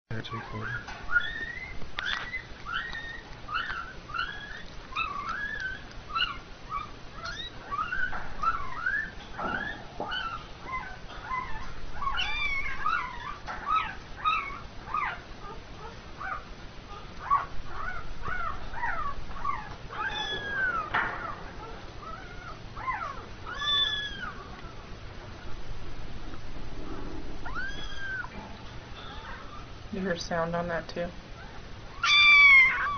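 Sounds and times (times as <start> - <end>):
young pets squeaking and mewing: 0.2 - 25.6, 26.3 - 29.9, 31.3 - 32.9.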